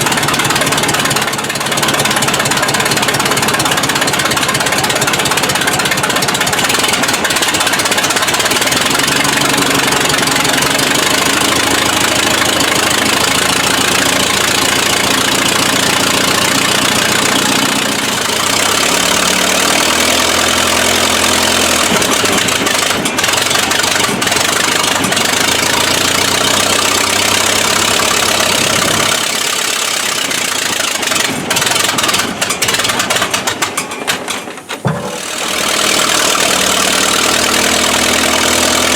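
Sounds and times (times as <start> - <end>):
heavy mechanical clatter: 0.0 - 38.9
large engine revving: 0.0 - 38.9.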